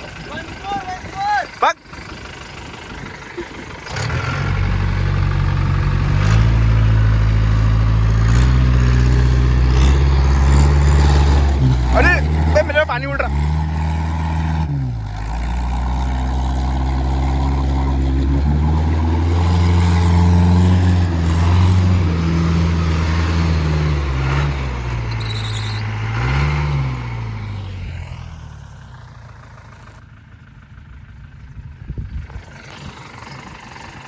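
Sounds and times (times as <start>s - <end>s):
vehicle engine revving: 0.0s - 31.3s, 32.0s - 34.0s.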